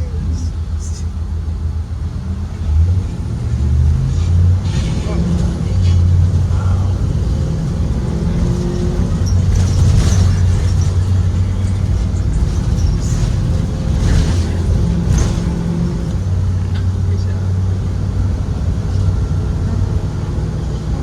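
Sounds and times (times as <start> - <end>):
bus engine droning: 0.0 - 21.0
road noise: 0.0 - 21.0.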